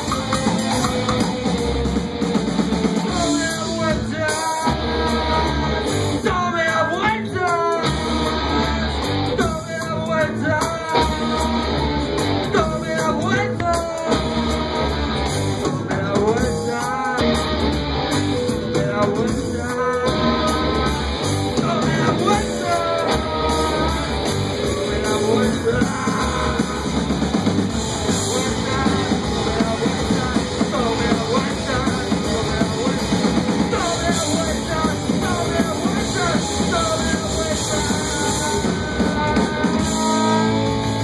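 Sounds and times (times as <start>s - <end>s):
drum kit: 0.0s - 41.0s
electric guitar: 0.0s - 41.0s
man singing: 2.9s - 41.0s.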